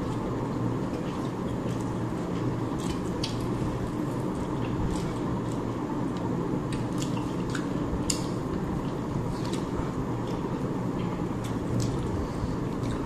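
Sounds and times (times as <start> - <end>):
chewing food: 0.0 - 13.0
steady low hum: 0.0 - 13.0.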